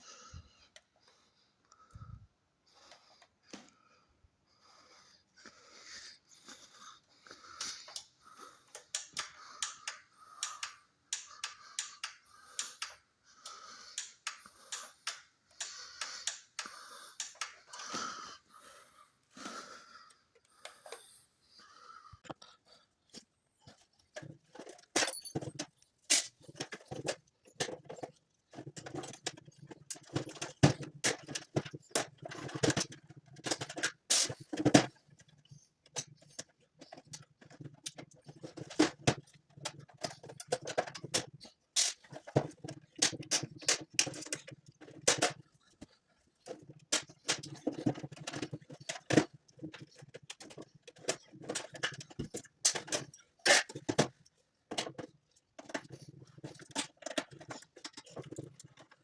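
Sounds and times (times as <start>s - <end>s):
handling clicks taps and scrapes: 2.8s - 3.9s, 5.4s - 21.2s, 22.1s - 59.0s.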